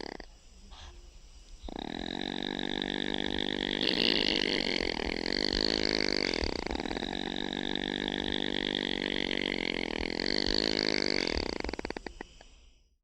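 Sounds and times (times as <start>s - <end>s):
opossum snoring: 0.0s - 0.9s, 1.6s - 12.6s.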